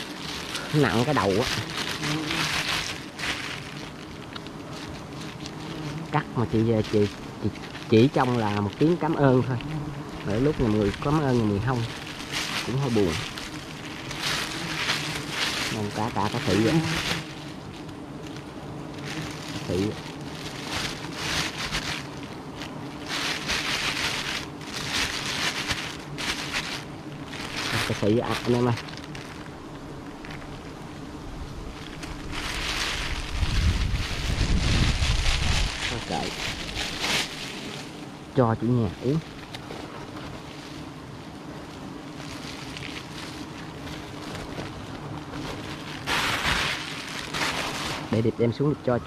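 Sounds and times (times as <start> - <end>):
plastic bag rustling: 0.0 - 48.6
honeybees buzzing: 0.0 - 49.0.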